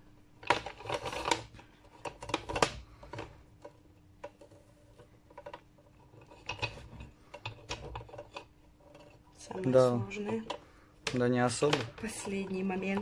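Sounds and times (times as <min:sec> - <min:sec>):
faint steady hum: 0:00.0 - 0:13.0
cable clicking and knocking on housing: 0:00.4 - 0:09.1, 0:10.1 - 0:13.0.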